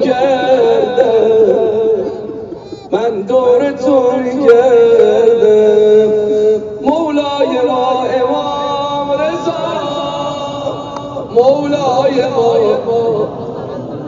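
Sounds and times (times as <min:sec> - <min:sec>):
man chanting a lament: 0:00.0 - 0:14.0.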